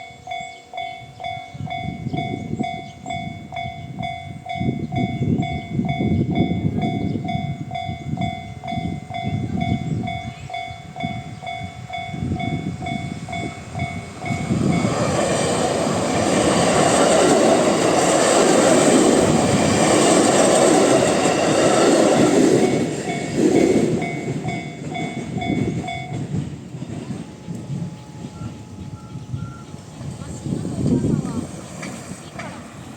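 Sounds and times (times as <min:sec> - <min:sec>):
level crossing alarm ringing: 0:00.0 - 0:30.2
train wheels passing: 0:00.0 - 0:32.9.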